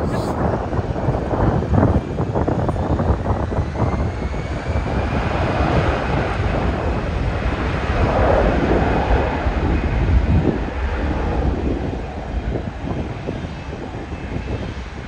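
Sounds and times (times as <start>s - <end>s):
jet engine rumble: 0.0s - 15.0s
wind on microphone: 0.0s - 15.0s.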